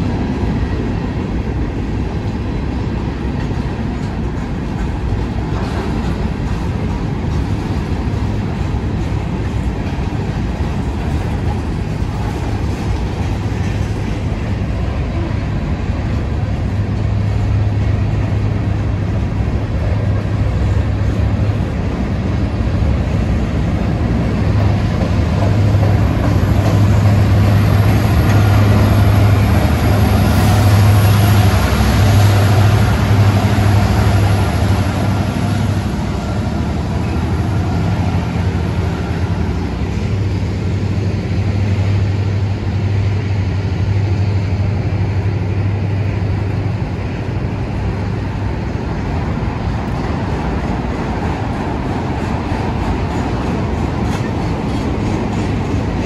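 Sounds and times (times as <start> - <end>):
diesel locomotive running: 0.0 - 56.0
freight train wheels rumbling on rail: 0.0 - 56.0.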